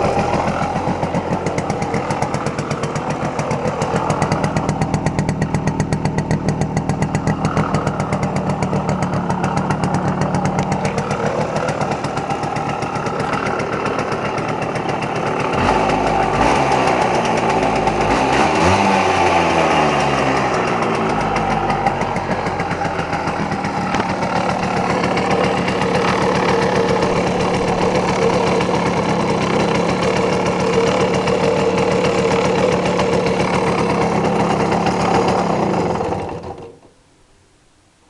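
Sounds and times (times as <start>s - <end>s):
two-stroke engine idling: 0.0s - 37.1s.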